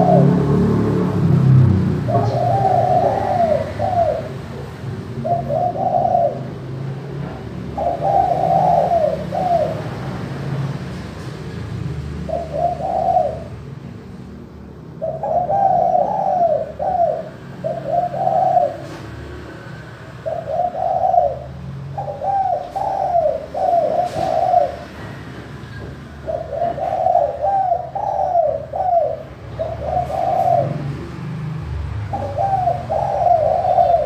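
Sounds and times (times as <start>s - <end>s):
dove cooing: 0.0s - 10.7s, 12.2s - 13.7s, 15.0s - 25.3s, 26.1s - 34.0s.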